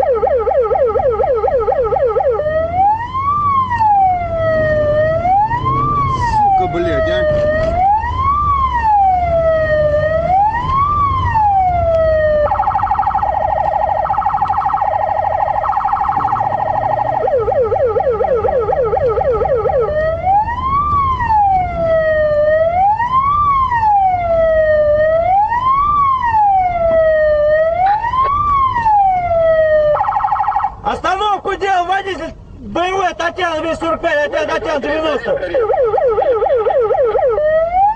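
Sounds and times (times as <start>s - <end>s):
police siren changing modes: 0.0s - 30.8s, 35.0s - 37.9s
engine and road rumble: 0.0s - 37.9s.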